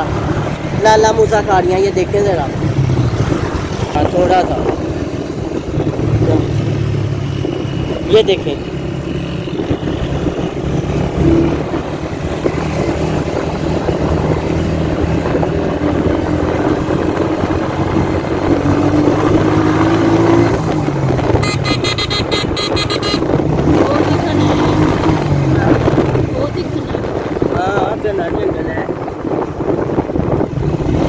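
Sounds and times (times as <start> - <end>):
motorcycle engine cruising: 0.0 - 31.0
wind and road noise: 0.0 - 31.0.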